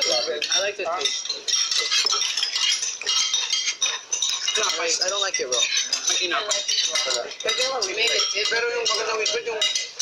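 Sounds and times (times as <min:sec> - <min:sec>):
cutlery clinking on plates: 0:00.0 - 0:10.0.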